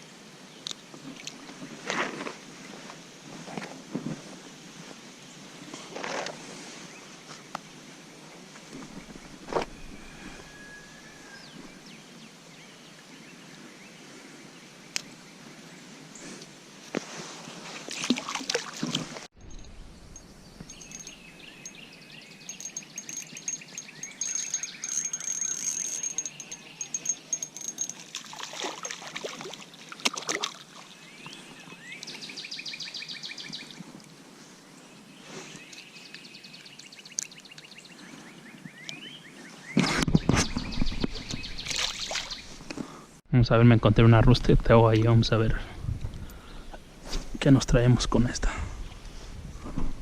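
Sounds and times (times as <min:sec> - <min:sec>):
songbirds chirping and trilling: 0:04.4 - 0:17.8, 0:19.4 - 0:49.6.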